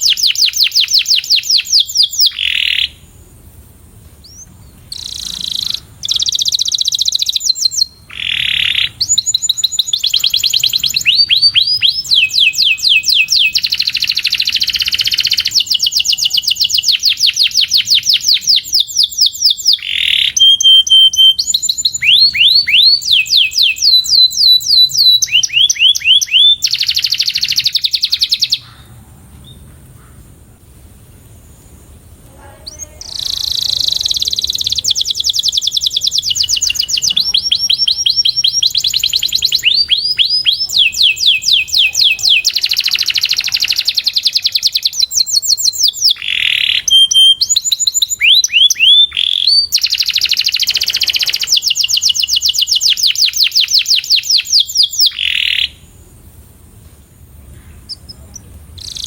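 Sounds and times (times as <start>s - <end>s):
canary singing: 0.0s - 3.2s, 4.2s - 30.3s, 32.3s - 56.0s, 57.5s - 59.0s.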